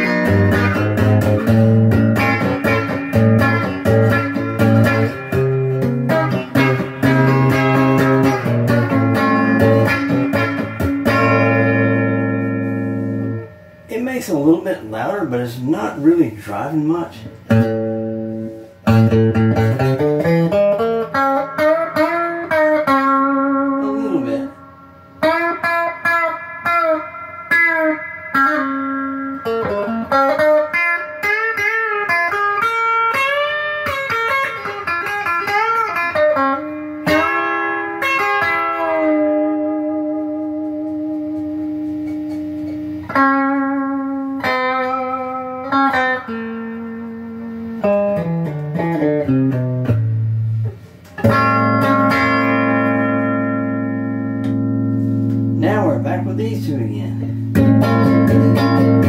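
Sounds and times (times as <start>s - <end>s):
electric guitar through an amp: 0.0s - 59.0s.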